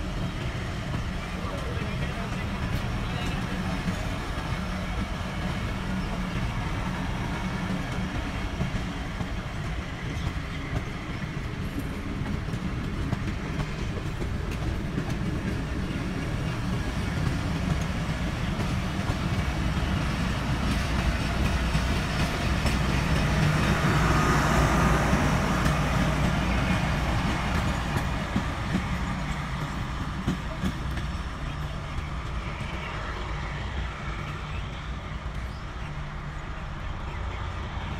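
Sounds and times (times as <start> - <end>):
wheels clacking over rail joints: 0.0 - 36.4
train wheels rumbling on rail: 0.0 - 37.9.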